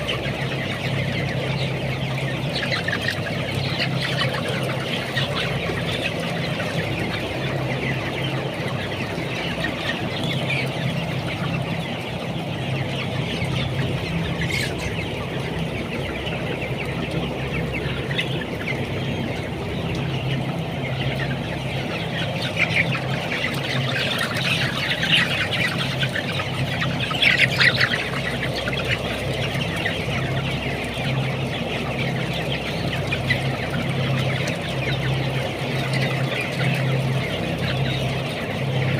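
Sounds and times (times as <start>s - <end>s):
chickens chirping and clucking: 0.0s - 38.9s.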